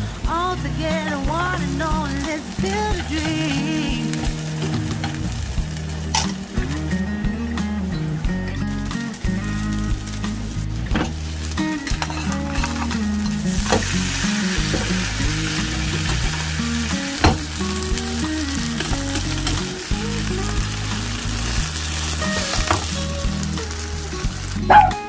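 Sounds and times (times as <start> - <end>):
pancake sizzling in a pan: 0.0 - 24.7.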